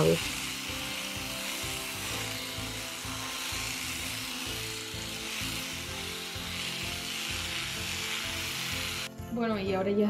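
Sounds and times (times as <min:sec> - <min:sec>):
electric epilator whirring: 0:00.0 - 0:09.1
background music: 0:00.0 - 0:10.0.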